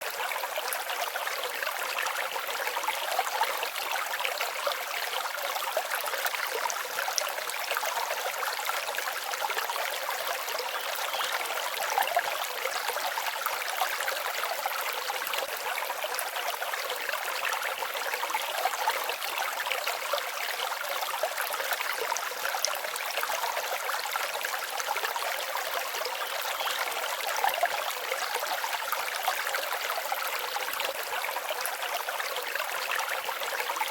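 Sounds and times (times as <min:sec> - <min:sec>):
stream babbling over stones: 0:00.0 - 0:33.9.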